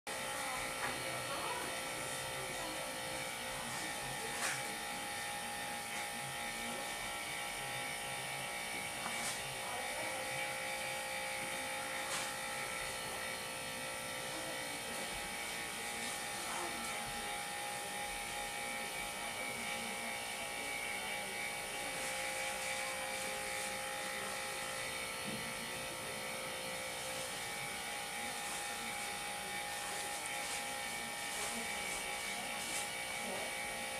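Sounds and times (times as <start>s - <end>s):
electric motor humming: 0.1s - 33.9s.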